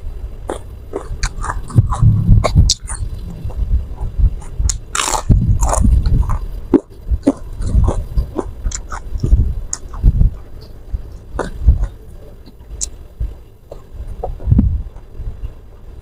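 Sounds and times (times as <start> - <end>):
chewing food: 0.4 - 15.6.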